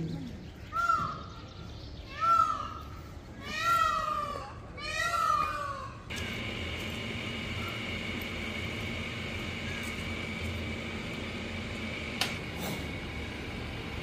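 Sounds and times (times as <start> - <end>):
mechanical hum with high whine: 0.0 - 14.0.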